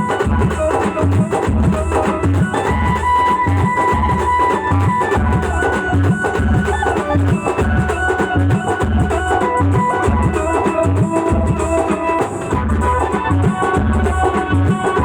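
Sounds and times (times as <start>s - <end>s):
driving drum rhythm: 0.0s - 15.0s
folk band music: 0.0s - 15.0s.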